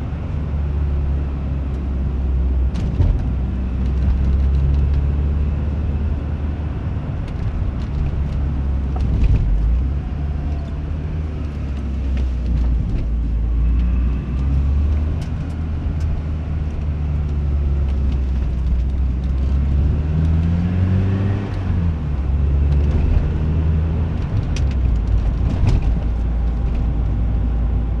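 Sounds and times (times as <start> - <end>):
car engine droning: 0.0 - 28.0
road noise: 0.0 - 28.0.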